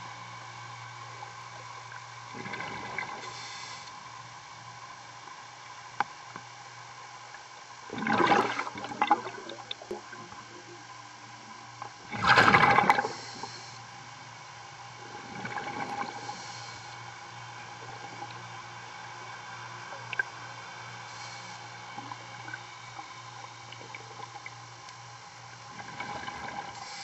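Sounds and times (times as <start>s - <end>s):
underwater machinery hum: 0.0s - 27.0s.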